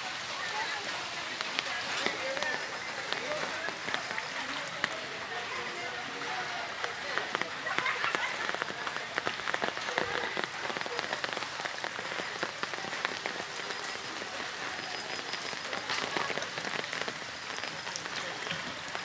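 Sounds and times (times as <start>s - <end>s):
heavy rain falling: 0.0s - 19.0s
raindrops striking close by: 0.0s - 19.0s.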